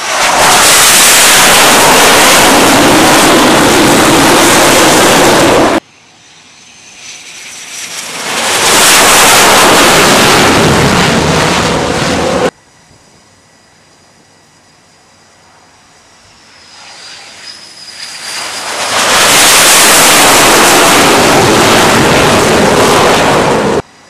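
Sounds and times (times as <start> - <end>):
jet aircraft engine noise: 0.0 - 24.0.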